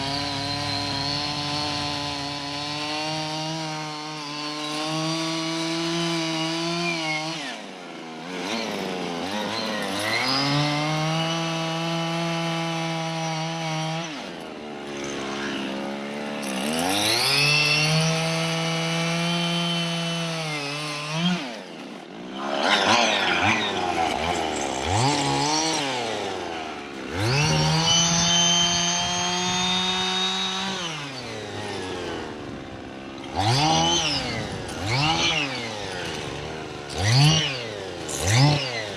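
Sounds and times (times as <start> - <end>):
chainsaw revving and cutting: 0.0 - 38.9.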